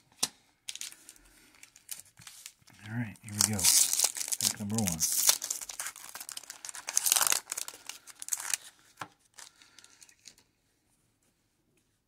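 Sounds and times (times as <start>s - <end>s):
foil wrapper crinkling: 0.7s - 10.4s.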